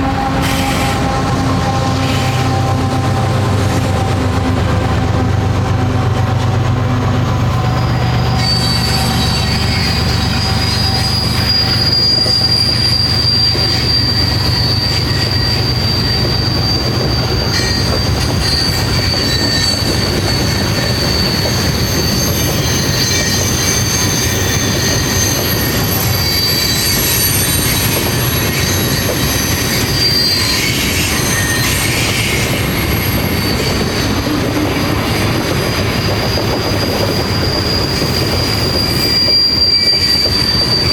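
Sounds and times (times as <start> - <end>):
freight train rumble: 0.0 - 40.9
train wheels squealing on rail: 0.0 - 40.9.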